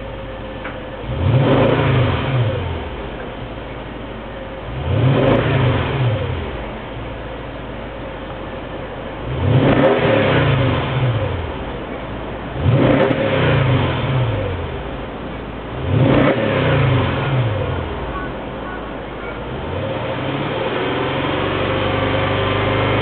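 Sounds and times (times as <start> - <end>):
car exhaust idling and revving: 0.0 - 23.0.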